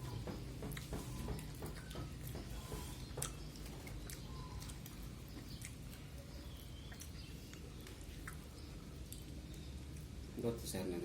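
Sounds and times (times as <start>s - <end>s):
person chewing food: 0.0s - 10.4s.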